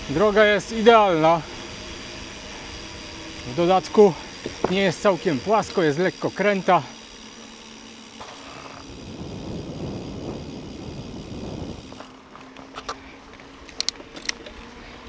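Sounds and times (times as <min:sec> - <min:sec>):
bicycle tyres rolling on asphalt: 0:00.0 - 0:15.0.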